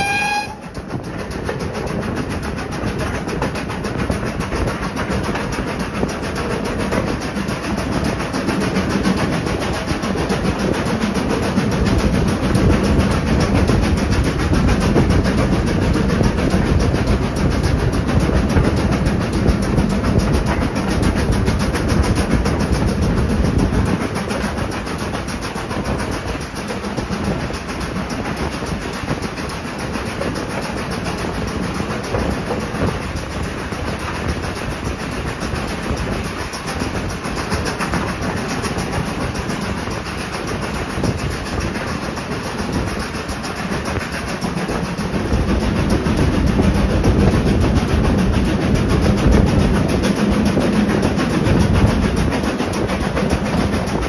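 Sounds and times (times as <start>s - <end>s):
coach wheels rumbling on rails: 0.0s - 54.0s
rushing wind: 0.0s - 54.0s.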